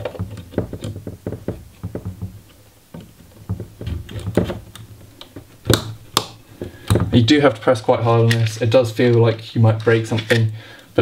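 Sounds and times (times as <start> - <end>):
small plastic clicks and knocks: 0.0 - 10.9.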